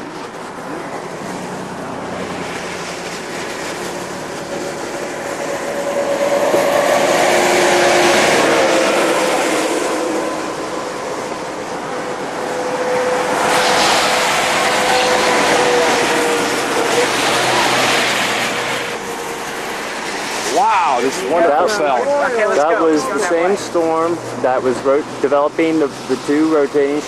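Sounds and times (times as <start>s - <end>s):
faint tyre whine: 0.0s - 27.0s
vehicles passing on highway: 0.0s - 27.0s.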